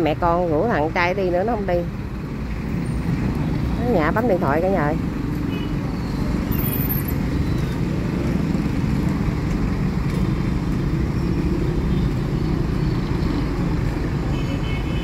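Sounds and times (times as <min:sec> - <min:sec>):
bus engines running: 0:00.0 - 0:15.0
road traffic: 0:00.0 - 0:15.0.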